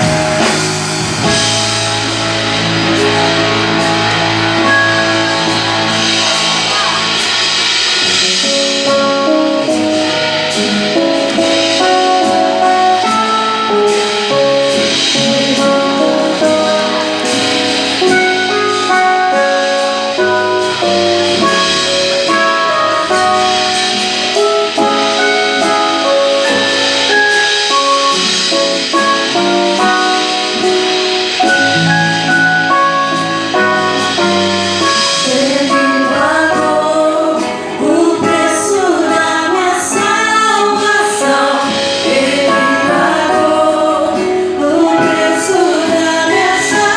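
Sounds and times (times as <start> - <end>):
instrumental melody over beat: 0.0 - 46.9.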